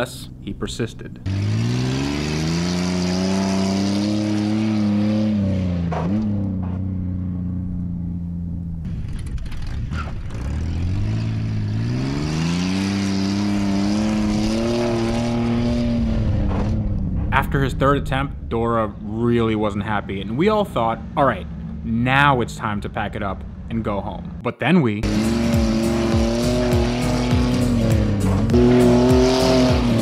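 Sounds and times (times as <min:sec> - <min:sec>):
car engine revving: 0:00.0 - 0:24.4, 0:25.0 - 0:30.0.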